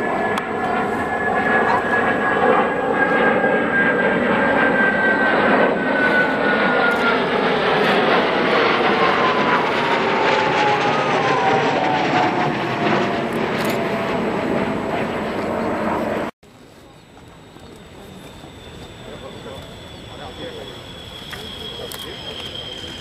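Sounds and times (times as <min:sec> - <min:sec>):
jet flying overhead: 0:00.0 - 0:23.0.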